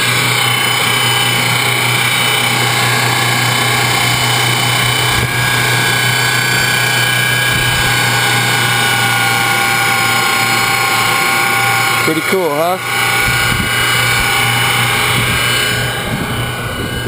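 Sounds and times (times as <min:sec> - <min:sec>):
electric motor whine: 0:00.0 - 0:17.0
steady low hum: 0:00.0 - 0:17.0.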